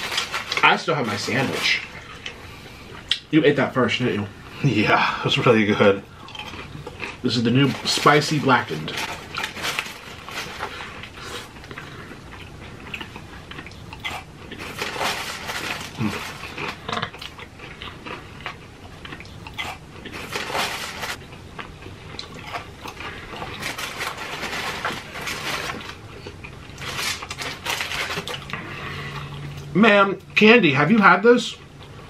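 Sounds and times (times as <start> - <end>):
chewing crunchy fried food: 0.0 - 3.2, 5.8 - 29.7.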